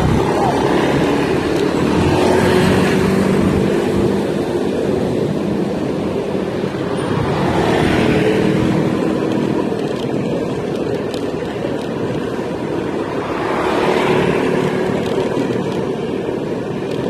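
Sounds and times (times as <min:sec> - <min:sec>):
motorcycles and cars driving by: 0:00.0 - 0:17.0.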